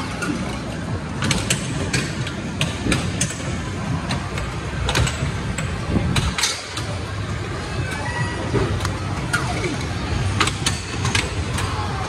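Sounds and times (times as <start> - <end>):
low rumble of arcade machines: 0.0 - 12.0.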